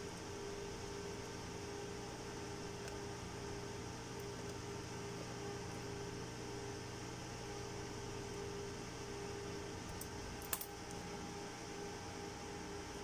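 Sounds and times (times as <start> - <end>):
fan-like hum and hiss: 0.0 - 13.0.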